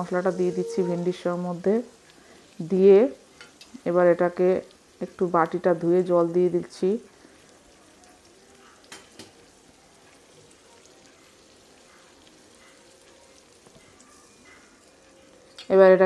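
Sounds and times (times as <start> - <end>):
faint sizzle of frying: 0.0 - 16.0.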